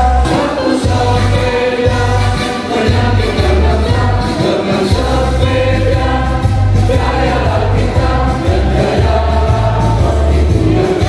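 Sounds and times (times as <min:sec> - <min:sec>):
backing music with heavy bass: 0:00.0 - 0:11.0
men singing together: 0:00.0 - 0:11.0.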